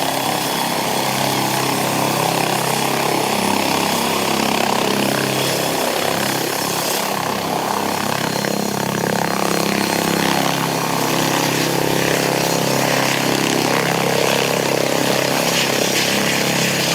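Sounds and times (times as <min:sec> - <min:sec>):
helicopter rotors and engines: 0:00.0 - 0:16.9.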